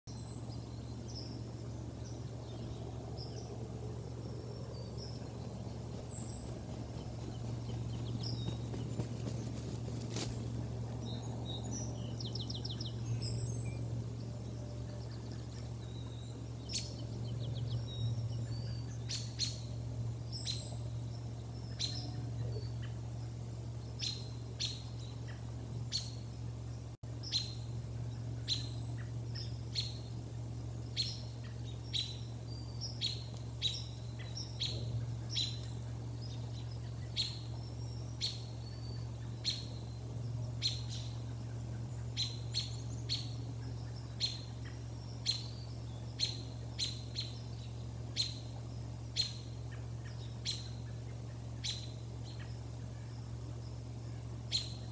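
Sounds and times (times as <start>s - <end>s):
low hum: 0.0s - 54.9s
small bird chip calls: 4.5s - 54.9s.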